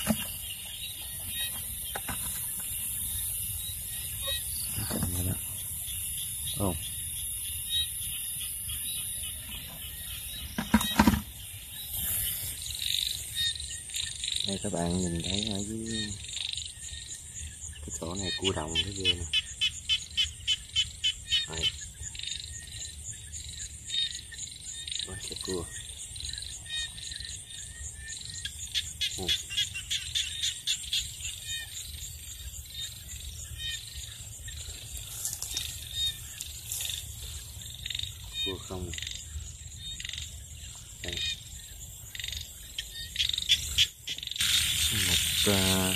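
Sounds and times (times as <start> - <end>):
frogs calling: 0.0 - 45.9
night insects chirring: 0.0 - 45.9.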